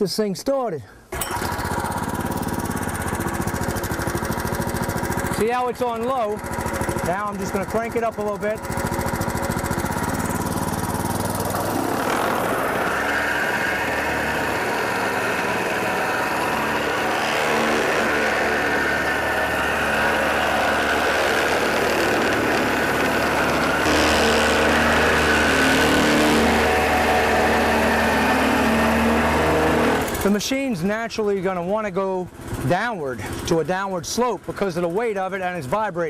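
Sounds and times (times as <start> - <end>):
plate compactor engine running: 1.2 - 36.0.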